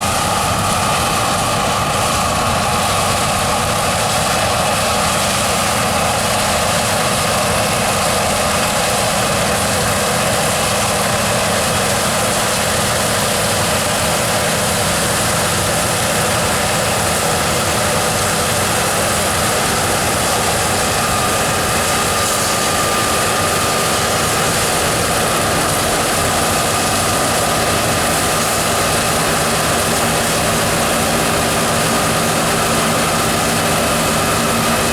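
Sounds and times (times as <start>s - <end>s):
combine harvester engine drone: 0.0s - 34.9s
threshing machinery whine: 0.0s - 34.9s.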